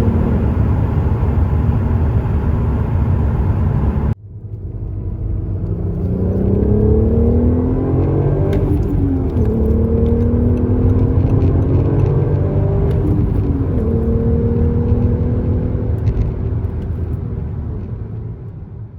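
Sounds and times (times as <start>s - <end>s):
car engine accelerating hard: 0.0s - 4.2s, 4.8s - 17.7s.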